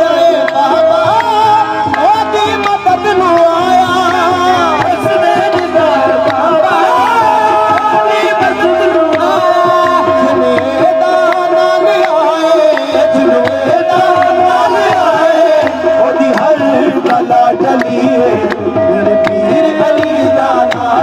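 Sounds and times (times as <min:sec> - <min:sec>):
men singing: 0:00.0 - 0:21.0
percussion beat: 0:00.0 - 0:21.0
hand claps: 0:00.1 - 0:21.0.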